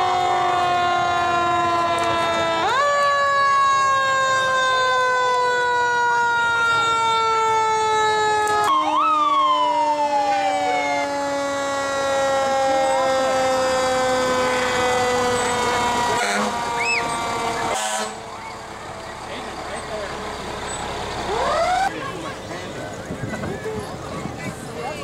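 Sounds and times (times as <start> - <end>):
fire truck sirens: 0.0 - 25.0.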